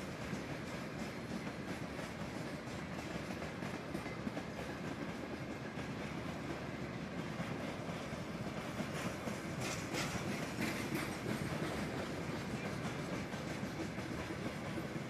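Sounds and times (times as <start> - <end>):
freight train wheels rumbling on rails: 0.0 - 15.0
hissing from train: 0.0 - 15.0.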